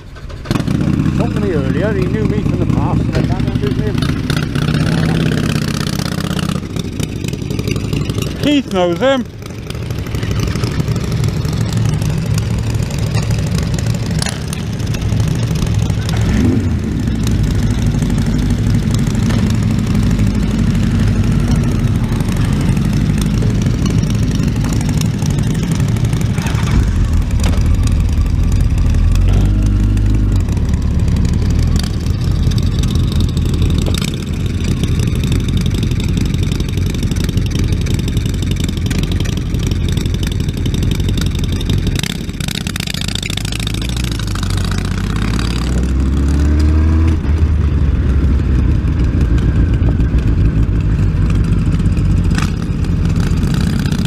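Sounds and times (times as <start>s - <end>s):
motorcycle engines idling and revving: 0.0s - 54.0s.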